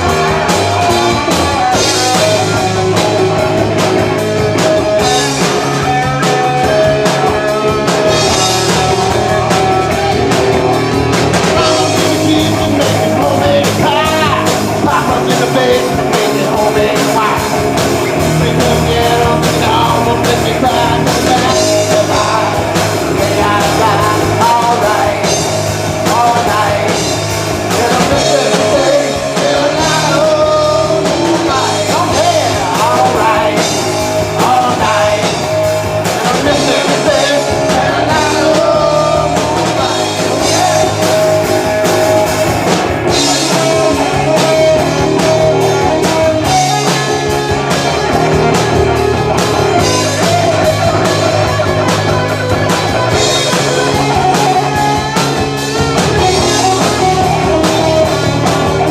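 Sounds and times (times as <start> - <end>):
drum kit: 0.0 - 58.9
electric guitar: 0.0 - 58.9
live rock band: 0.0 - 58.9
person singing: 0.0 - 58.9.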